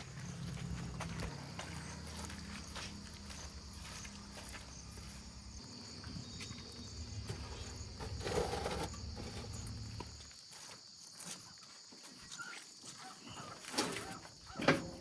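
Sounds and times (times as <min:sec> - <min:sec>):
high insect chirr: 0:00.0 - 0:15.0.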